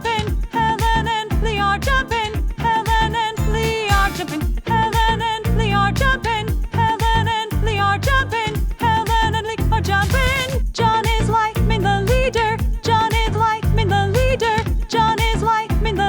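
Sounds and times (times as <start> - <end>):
upbeat music with vibrato melody: 0.0 - 16.0.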